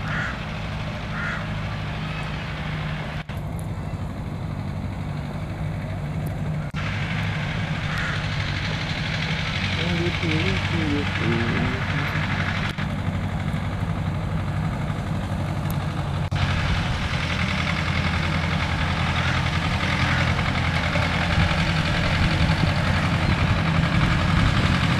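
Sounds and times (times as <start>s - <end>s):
low engine hum: 0.0s - 24.9s.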